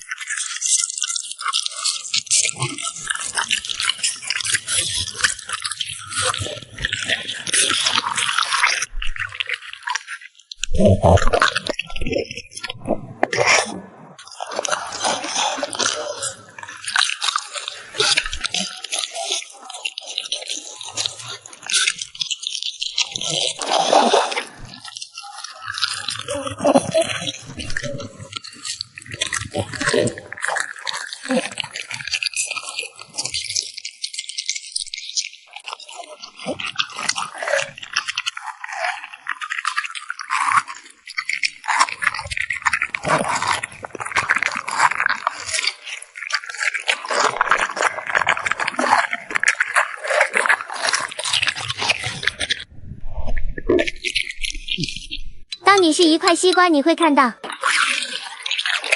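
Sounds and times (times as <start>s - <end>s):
dog chewing and crunching food: 0.0s - 52.7s, 53.6s - 58.9s.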